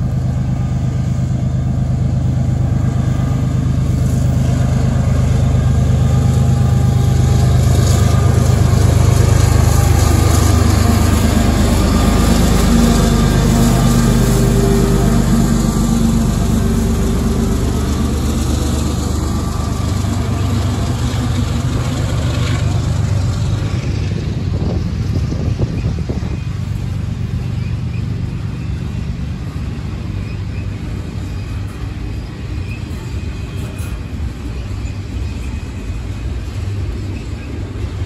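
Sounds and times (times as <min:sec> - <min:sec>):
freight cars rolling on rails: 0:00.0 - 0:38.0
locomotive engines droning: 0:00.0 - 0:38.0.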